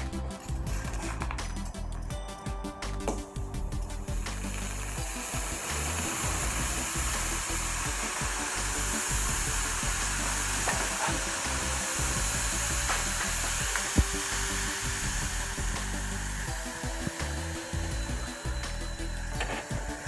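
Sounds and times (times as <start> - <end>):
furnace roaring and hissing: 2.8 - 20.0.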